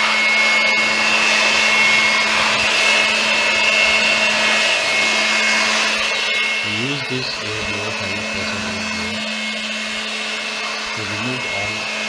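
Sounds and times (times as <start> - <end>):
electric air blower whining: 0.0 - 12.0.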